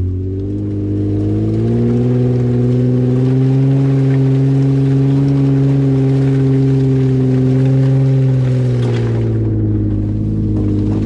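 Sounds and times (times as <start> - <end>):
engine accelerating: 0.0 - 11.0.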